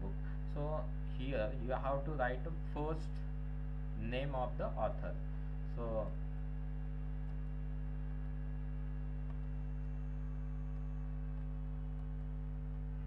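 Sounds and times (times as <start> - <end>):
electrical mains hum: 0.0 - 13.0
faint high whine: 0.0 - 13.0.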